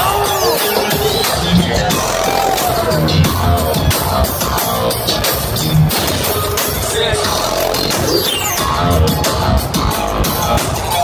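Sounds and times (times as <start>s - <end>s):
loud live electronic music: 0.0s - 11.0s.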